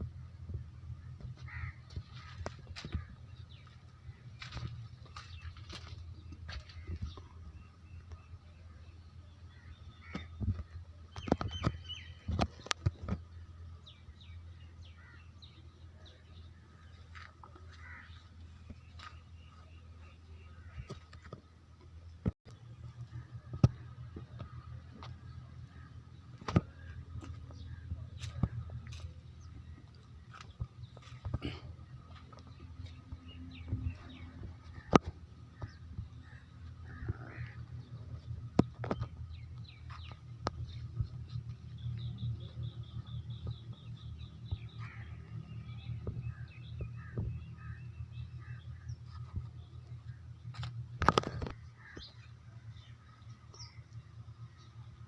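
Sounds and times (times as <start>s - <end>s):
low machinery hum: 0.0s - 55.0s
small birds chirping: 1.0s - 55.0s.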